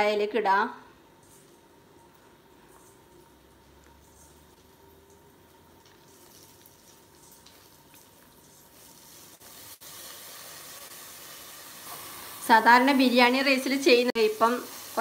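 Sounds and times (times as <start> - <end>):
faint sizzle in hot fat: 1.0 - 15.0.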